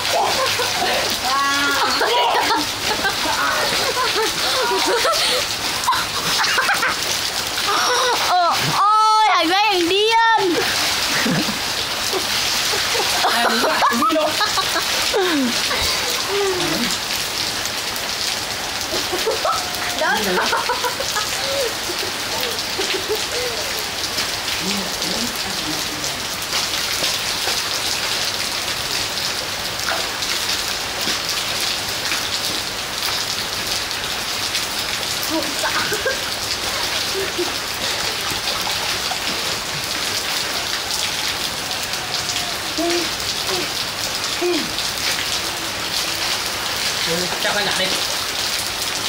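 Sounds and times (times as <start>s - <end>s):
heavy rain on concrete and foliage: 0.0s - 49.0s.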